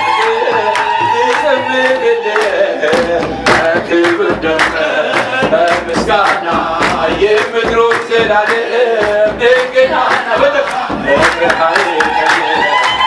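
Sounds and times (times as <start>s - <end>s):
group singing a hymn: 0.0s - 12.2s
drum beat: 0.0s - 13.0s
hand clapping: 0.1s - 13.0s.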